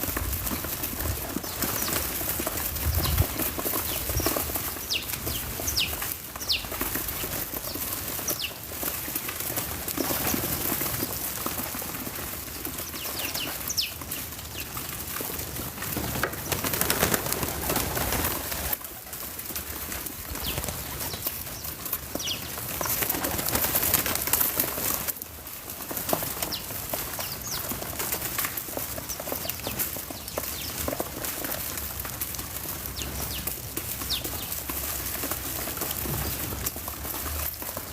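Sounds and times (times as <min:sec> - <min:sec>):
birds chirping: 0:00.0 - 0:18.8, 0:20.2 - 0:25.0, 0:26.2 - 0:31.8, 0:32.4 - 0:37.9
outdoor background noise: 0:00.0 - 0:37.9.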